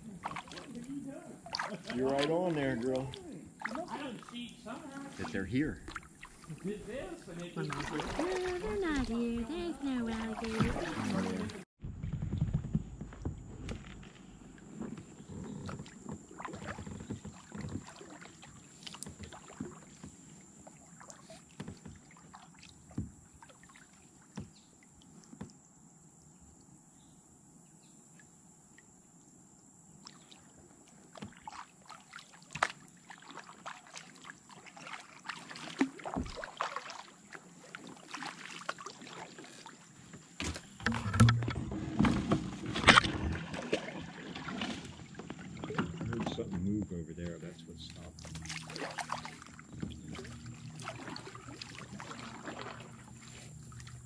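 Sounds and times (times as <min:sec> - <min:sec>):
paddle dipping and dripping water: 0:00.0 - 0:27.0, 0:28.1 - 0:54.0.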